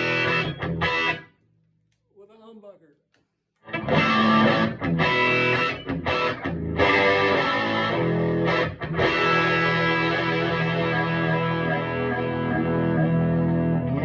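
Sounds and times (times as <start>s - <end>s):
electric guitar chords: 0.0s - 1.3s, 3.6s - 14.0s.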